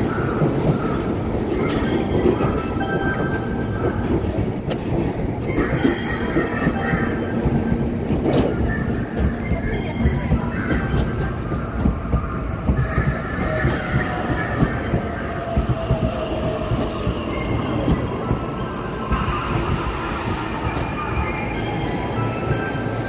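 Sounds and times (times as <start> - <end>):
wheel and rail rumble: 0.0 - 23.0.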